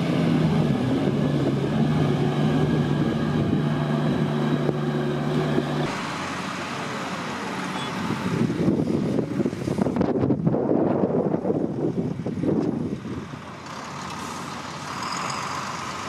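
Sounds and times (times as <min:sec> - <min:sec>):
dump truck diesel engine: 0:00.0 - 0:10.1, 0:11.5 - 0:16.0
wind: 0:00.0 - 0:16.0.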